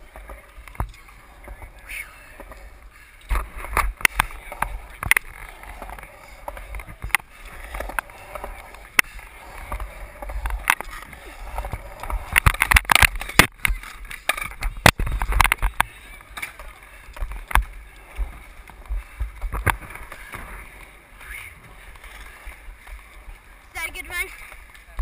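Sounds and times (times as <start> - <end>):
skateboard clacks: 0.0 - 25.0
skateboard wheels rolling on concrete: 0.0 - 25.0.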